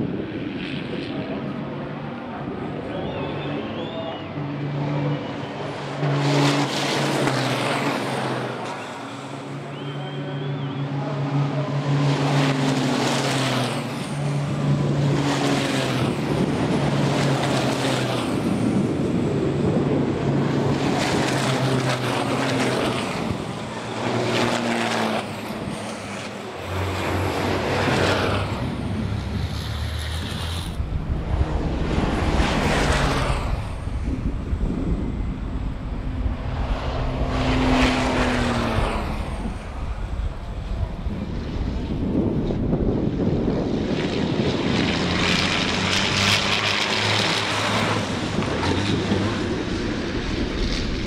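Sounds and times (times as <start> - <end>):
steady low engine drone: 0.0 - 51.0
racing trucks passing at speed: 2.6 - 51.0.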